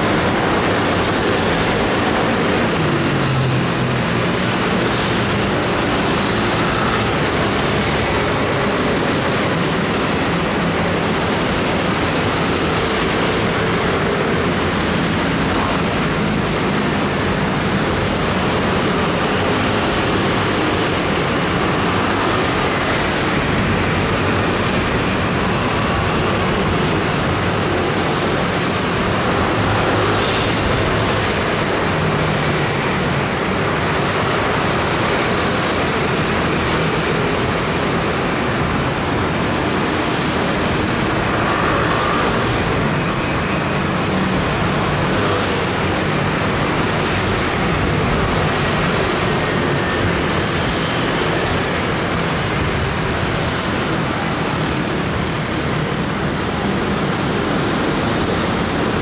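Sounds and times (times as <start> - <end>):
dense traffic with scooter engines: 0.0 - 59.0.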